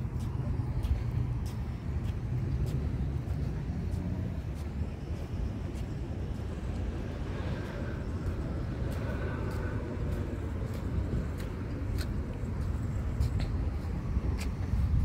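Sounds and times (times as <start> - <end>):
distant traffic: 0.0 - 15.0
wind rumble on microphone: 0.0 - 15.0.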